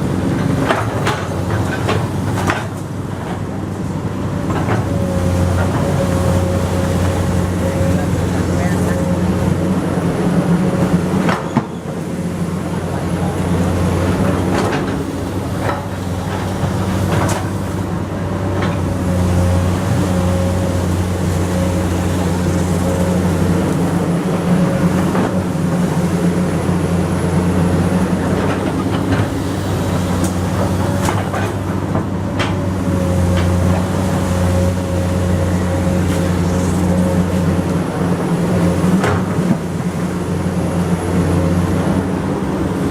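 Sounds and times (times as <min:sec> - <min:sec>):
excavator diesel engine drone: 0:00.0 - 0:42.9.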